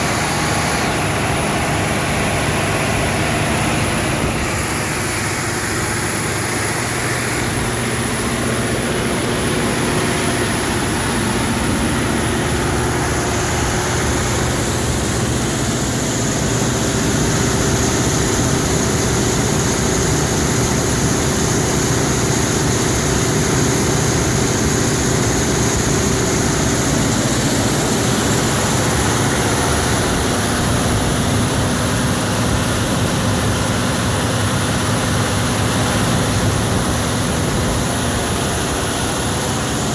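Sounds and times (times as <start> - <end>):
diesel generator engine droning: 0.0 - 39.9.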